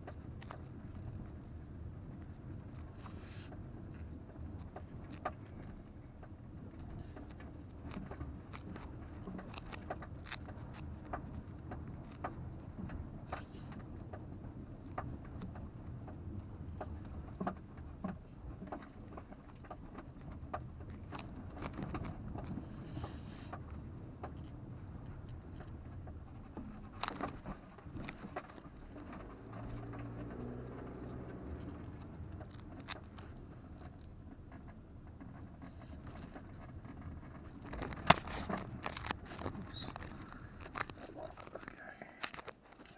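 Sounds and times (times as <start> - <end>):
engine and tyre rumble: 0.0 - 42.9.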